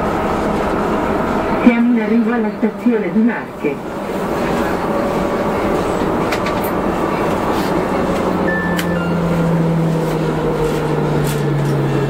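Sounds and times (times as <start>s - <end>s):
low motor whine: 0.0s - 12.0s
train wheels rumbling in tunnel: 0.0s - 12.0s.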